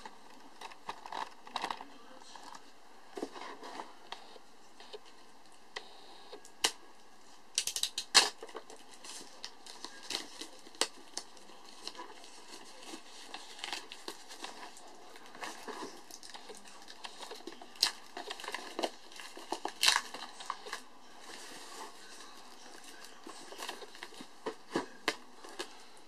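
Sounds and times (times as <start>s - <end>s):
plastic wrap crinkling: 0.0s - 2.6s, 7.5s - 26.0s.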